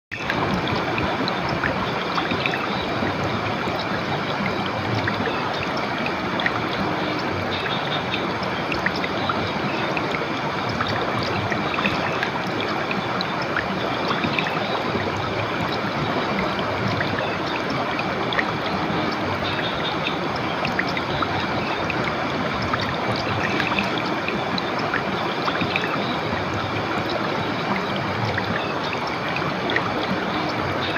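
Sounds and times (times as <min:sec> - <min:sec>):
river water flowing: 0:00.1 - 0:30.9
small water splashes: 0:00.1 - 0:30.9.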